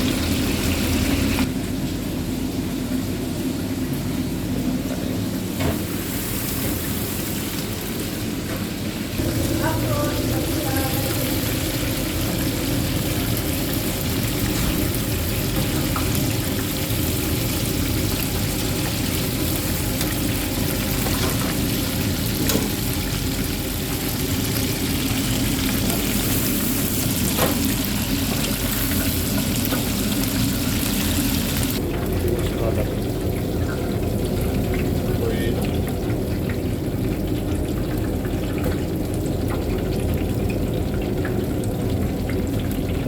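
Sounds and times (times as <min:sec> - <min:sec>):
chicken deep-frying in oil: 0:00.0 - 0:43.0.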